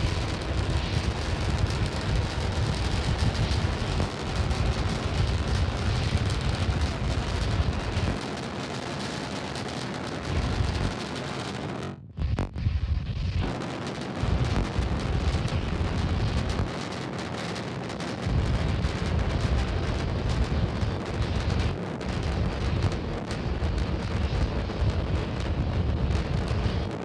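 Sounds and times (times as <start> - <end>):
rocket engines roaring: 0.0 - 27.0.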